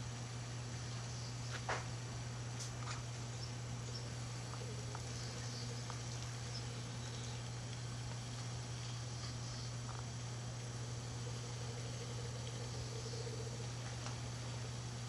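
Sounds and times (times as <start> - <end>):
honeybee swarm humming: 0.0 - 15.0.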